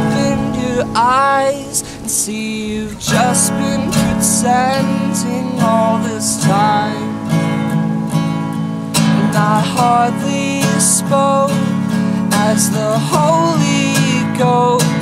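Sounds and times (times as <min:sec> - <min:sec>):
man singing: 0:00.0 - 0:07.6, 0:09.0 - 0:15.0
strummed acoustic guitar: 0:00.0 - 0:15.0.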